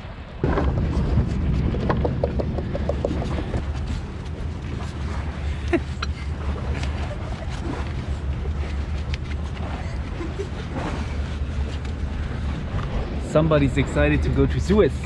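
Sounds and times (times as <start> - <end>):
boat engine humming: 0.0 - 15.0
wind noise: 0.0 - 15.0.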